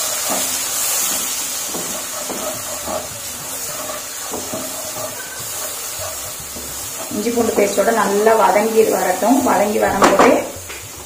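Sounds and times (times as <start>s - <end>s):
paste sizzling in hot oil: 0.0s - 11.0s
spatula scraping a pan: 0.0s - 11.0s.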